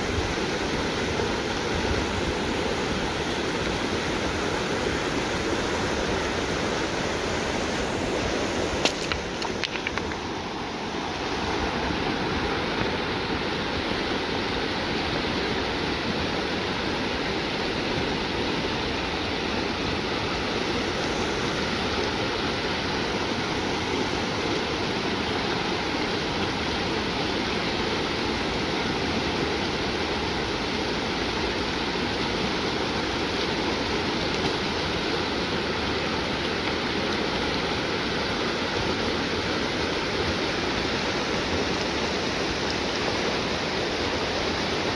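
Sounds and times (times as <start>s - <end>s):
river rushing over rocks: 0.0s - 44.9s.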